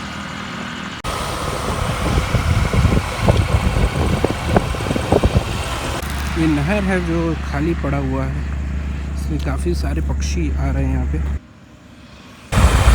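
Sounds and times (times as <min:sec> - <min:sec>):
motorcycle engine and road rumble: 0:00.0 - 0:12.9
wind gusting over microphone: 0:01.0 - 0:11.4, 0:12.5 - 0:12.9.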